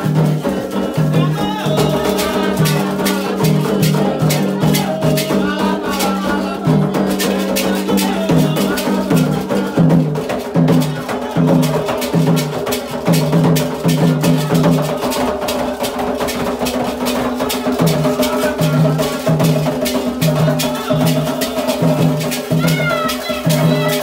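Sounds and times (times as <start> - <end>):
hand drums in quick rhythm: 0.0 - 24.0.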